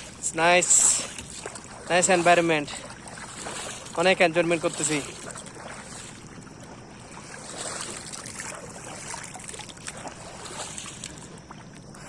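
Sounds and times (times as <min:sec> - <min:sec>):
water splashing around a kayak: 0:00.0 - 0:12.0.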